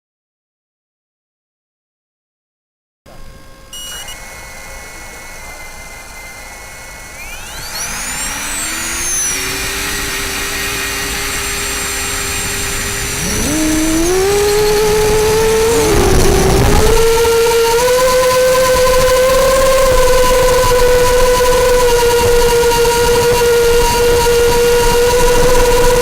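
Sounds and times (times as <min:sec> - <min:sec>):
drone motors whining: 0:03.1 - 0:26.0.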